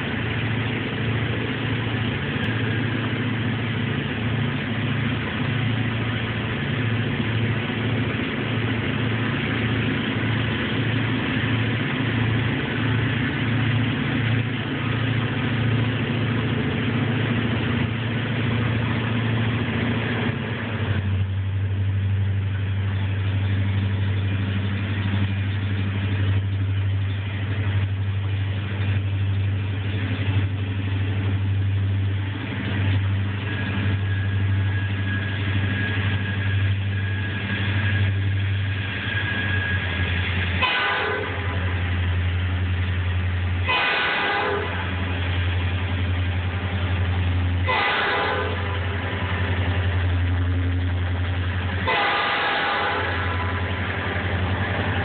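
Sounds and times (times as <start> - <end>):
diesel locomotive engines droning: 0.0 - 55.0.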